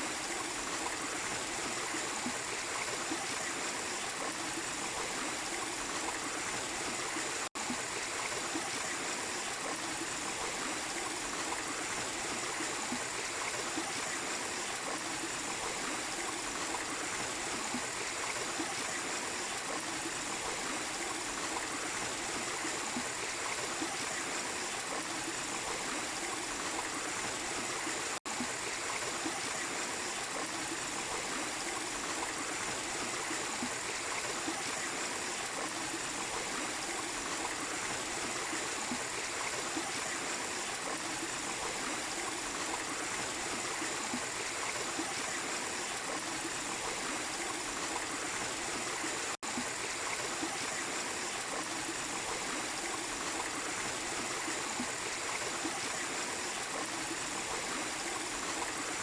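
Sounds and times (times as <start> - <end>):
waterfall and stream running: 0.0 - 59.0.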